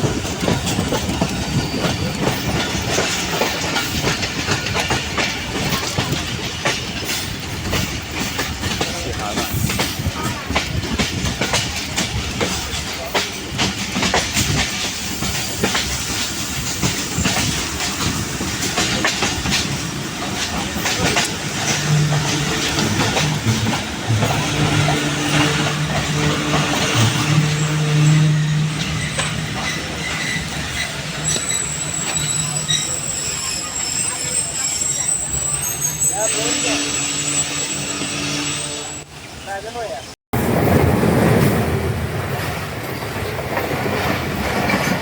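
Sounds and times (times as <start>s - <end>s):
train wheels clicking over rail joints: 0.0s - 36.3s, 42.3s - 45.0s.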